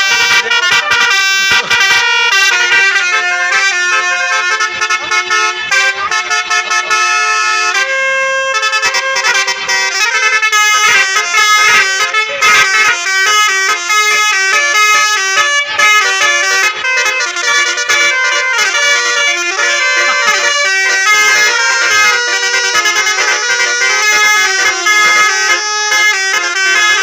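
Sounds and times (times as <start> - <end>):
musical air horns playing melody: 0.0 - 27.0.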